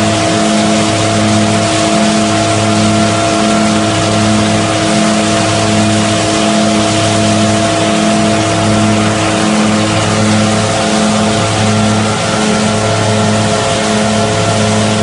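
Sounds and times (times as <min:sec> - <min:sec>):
threshing machine running: 0:00.0 - 0:15.0.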